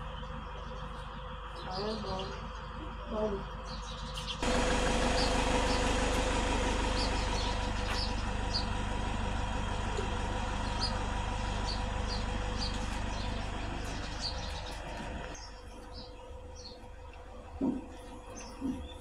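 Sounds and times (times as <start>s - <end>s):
motor drone: 0.0s - 19.0s
small birds chirping: 0.0s - 19.0s.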